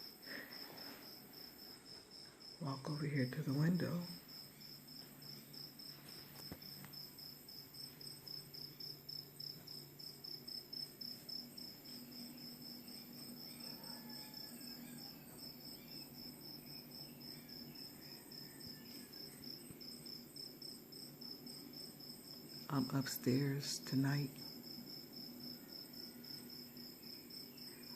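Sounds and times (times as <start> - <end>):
cricket chirping: 0.0 - 27.9.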